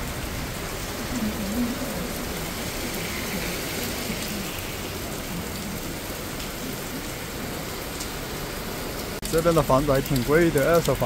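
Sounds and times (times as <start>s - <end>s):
heavy rain on street: 0.0s - 11.0s.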